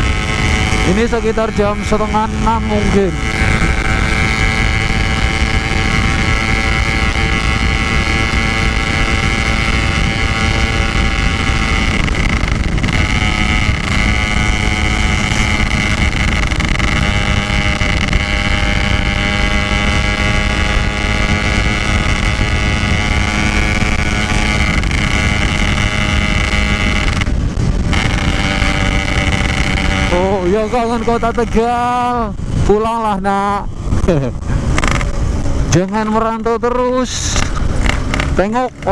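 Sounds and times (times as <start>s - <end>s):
two-stroke motorcycle engine running: 0.0s - 38.9s
wind on microphone: 0.0s - 38.9s.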